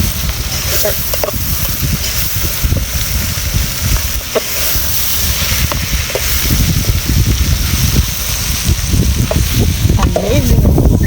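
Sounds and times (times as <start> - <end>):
steady hiss: 0.0 - 11.0
wind buffeting microphone: 0.0 - 11.0.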